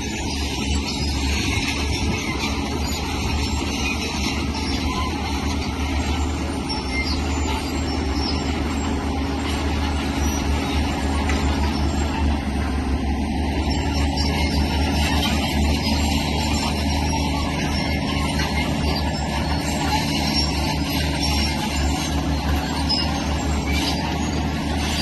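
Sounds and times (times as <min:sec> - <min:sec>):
heavy diesel engine rumbling: 0:00.0 - 0:25.0
machinery clatter: 0:00.0 - 0:25.0.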